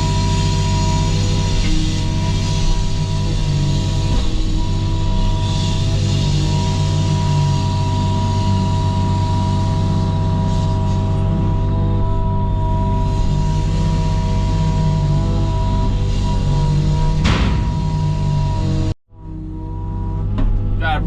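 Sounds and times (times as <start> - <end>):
diesel engine running: 0.0 - 21.0
high hydraulic whine: 0.0 - 21.0.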